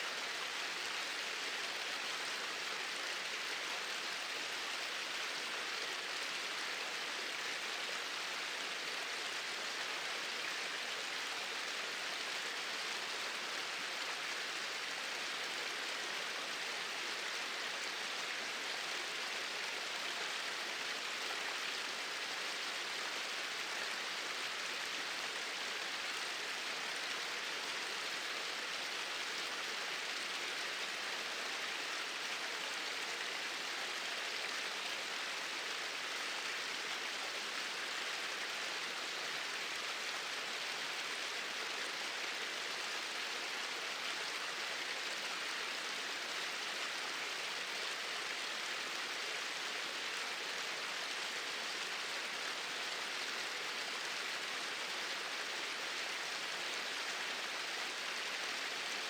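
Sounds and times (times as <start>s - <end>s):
small waterfall pouring: 0.1s - 59.0s.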